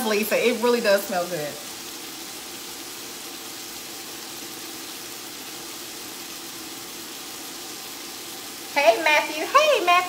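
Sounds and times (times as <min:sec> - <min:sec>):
vegetables sizzling in pot: 0:00.0 - 0:10.0.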